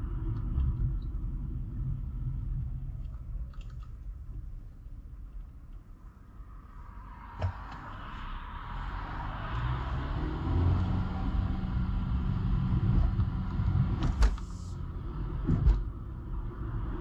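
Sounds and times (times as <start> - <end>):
car tyres road noise rumble: 0.0 - 17.0.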